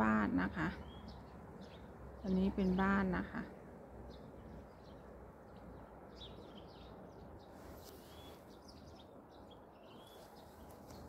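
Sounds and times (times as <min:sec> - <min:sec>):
faint bird chirps and calls: 0:00.0 - 0:11.0
low outdoor background noise: 0:00.0 - 0:11.0.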